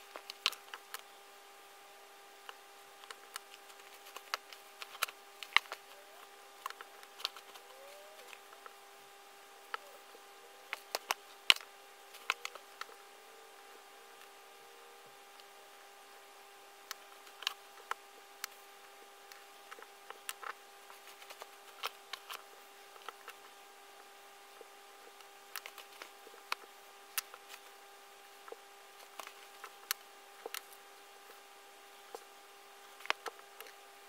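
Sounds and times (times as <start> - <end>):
faint hum: 0.0 - 34.0.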